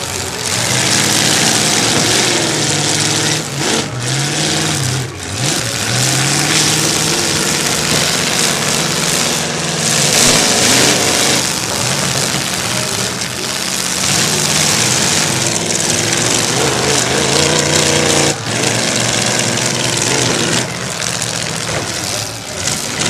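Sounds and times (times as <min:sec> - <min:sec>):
car engines revving: 0:00.0 - 0:23.0
heavy rushing noise: 0:00.0 - 0:23.0.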